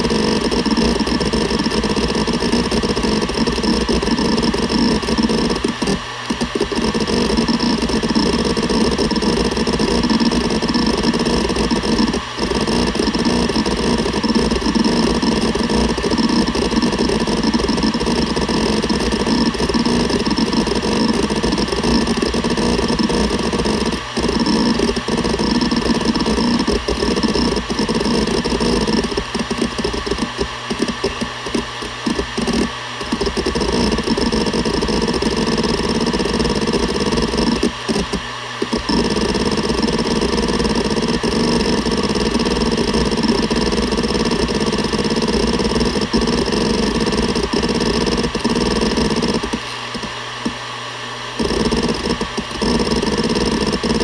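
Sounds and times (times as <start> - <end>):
hard drive head seeking chatter: 0.0 - 54.0
hard drive spindle hum: 0.0 - 54.0.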